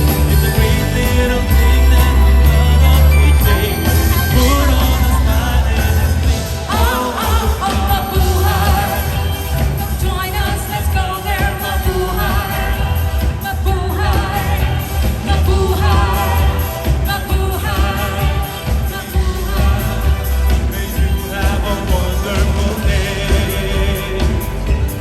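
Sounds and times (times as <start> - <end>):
heavy bass: 0.0 - 25.0
live band playing pop: 0.0 - 25.0
person singing: 0.0 - 25.0.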